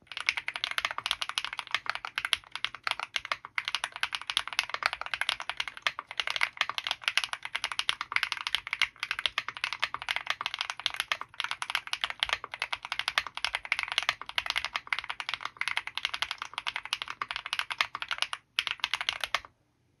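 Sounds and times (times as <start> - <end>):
mechanical keyboard typing: 0.0 - 19.5.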